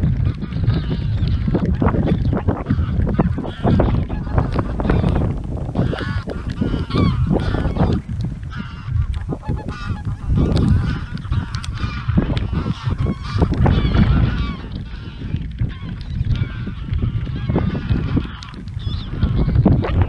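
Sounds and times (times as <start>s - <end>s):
low rumble: 0.0s - 20.0s
geese honking: 0.1s - 20.0s.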